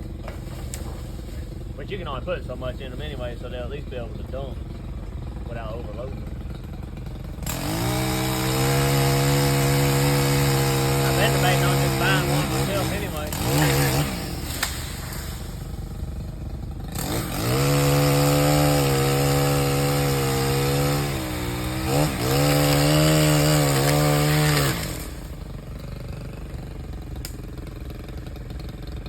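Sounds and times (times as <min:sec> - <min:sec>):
pole saw cutting: 0:05.0 - 0:29.0.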